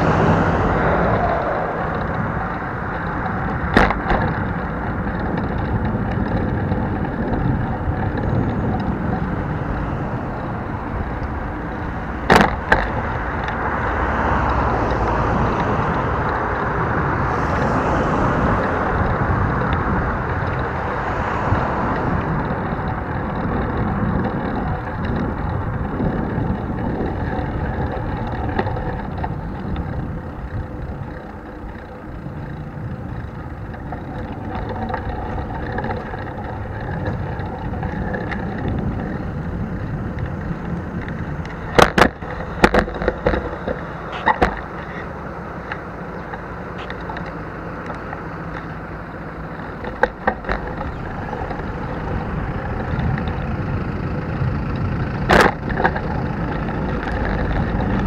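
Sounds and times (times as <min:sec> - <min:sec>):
bicycle tyres rumbling on road: 0:00.0 - 0:58.0
street traffic: 0:00.0 - 0:58.0.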